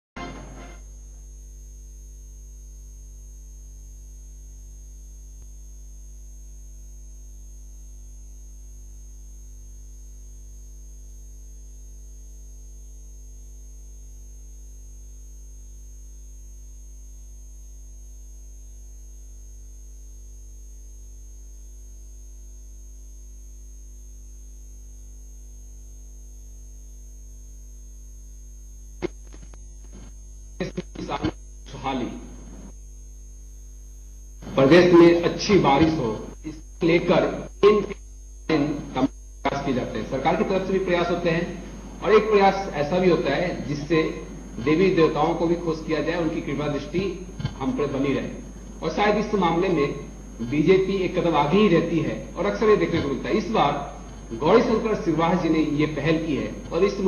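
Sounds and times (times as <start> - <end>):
electrical mains hum: 0.2 - 57.0
faint high-pitched whine: 0.2 - 57.0.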